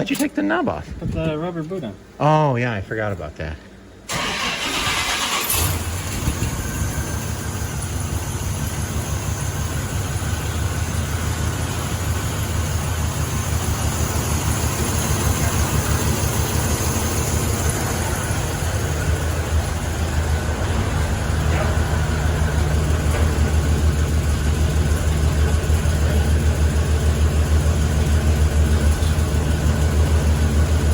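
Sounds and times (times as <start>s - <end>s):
car engine idling: 3.7s - 30.9s.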